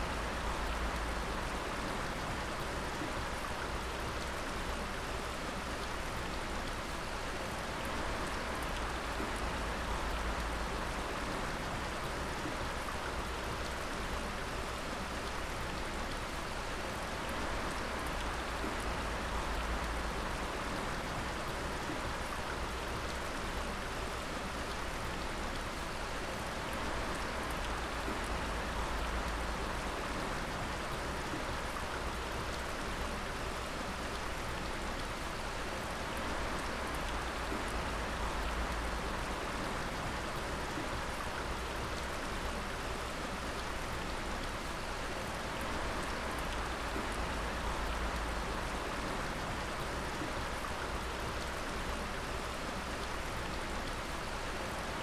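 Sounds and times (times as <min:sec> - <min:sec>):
water dripping and splashing: 0:07.8 - 0:55.0.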